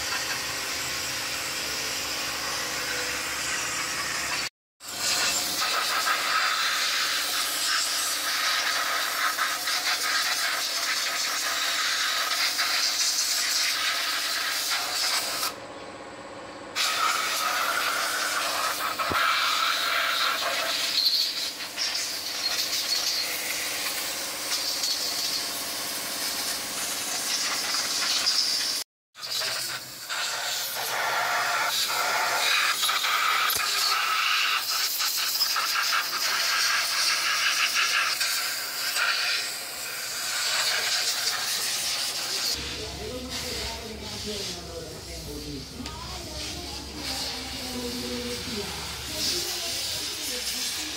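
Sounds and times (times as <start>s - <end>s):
compressed air hissing: 0.0s - 15.6s, 16.8s - 50.9s.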